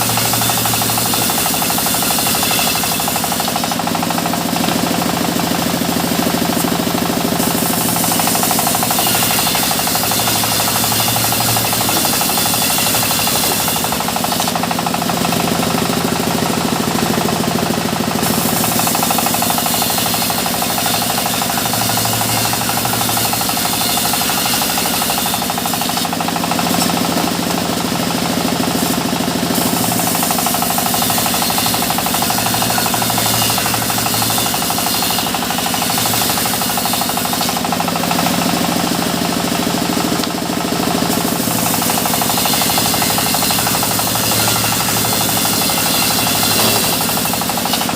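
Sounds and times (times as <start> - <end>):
engine knocking rhythmically: 0.0 - 47.9
saw cutting wood hissing: 0.0 - 47.9.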